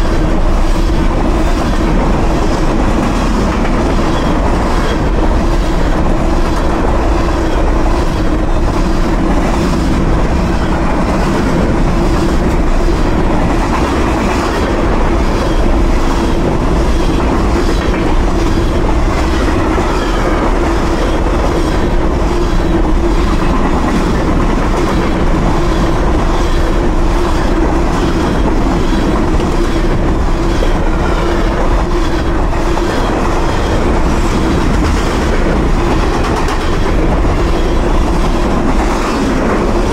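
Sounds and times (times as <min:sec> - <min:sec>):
clickety-clack of train wheels: 0:00.0 - 0:39.9
train wheels rumbling on rail: 0:00.0 - 0:39.9.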